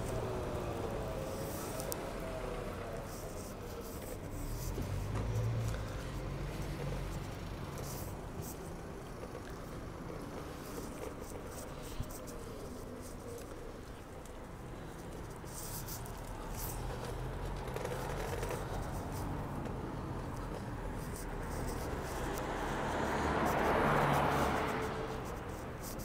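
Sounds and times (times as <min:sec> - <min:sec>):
low traffic hum: 0:00.0 - 0:26.0
vehicle passing: 0:00.0 - 0:26.0.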